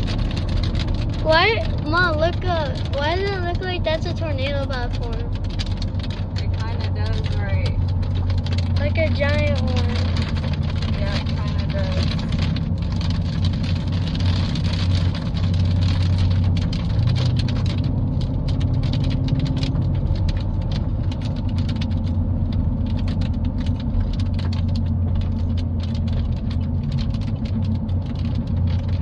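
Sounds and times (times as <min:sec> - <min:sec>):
car engine hum: 0:00.0 - 0:29.0
rain hitting car windshield: 0:00.0 - 0:29.0
road noise: 0:00.0 - 0:29.0.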